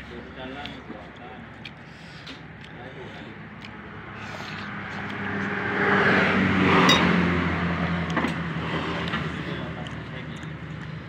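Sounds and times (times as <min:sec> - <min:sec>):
vehicle passing: 0:01.6 - 0:11.0.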